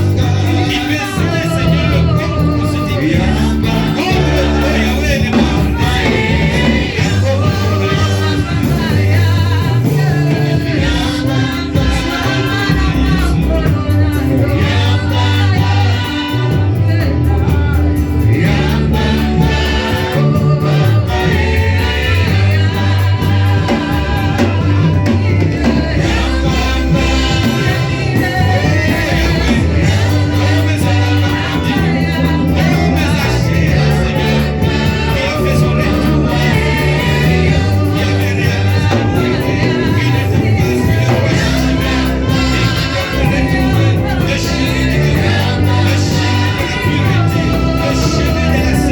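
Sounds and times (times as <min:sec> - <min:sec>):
band with strong bass line: 0:00.0 - 0:48.9
choir singing gospel music: 0:00.0 - 0:48.9.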